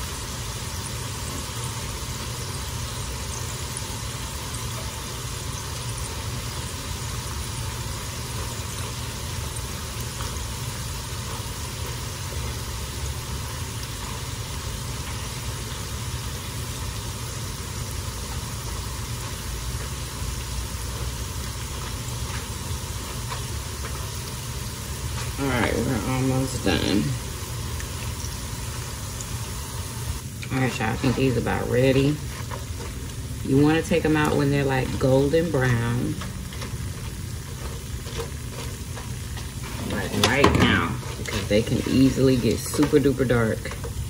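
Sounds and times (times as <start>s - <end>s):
oil sizzling in a pan: 0.0s - 44.0s.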